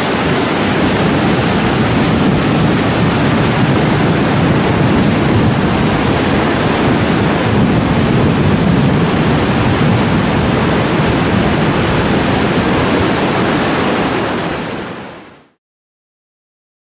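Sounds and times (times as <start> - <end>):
whitewater rushing: 0.0 - 15.6.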